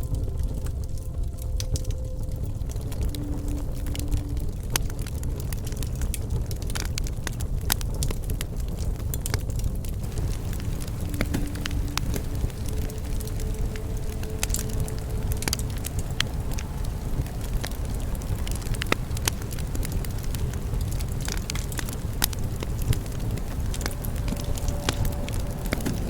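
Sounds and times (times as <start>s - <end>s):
burning wood crackling and popping: 0.0s - 26.0s
bonfire rumbling: 0.1s - 26.0s.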